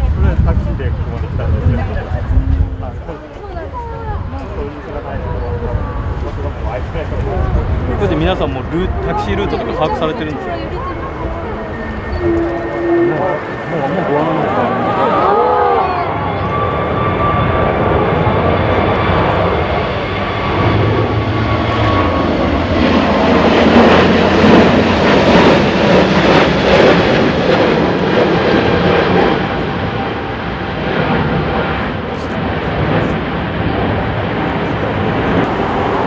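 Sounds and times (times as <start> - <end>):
jet airliner flying past: 0.0 - 36.0
low rumble of wind: 0.0 - 36.0.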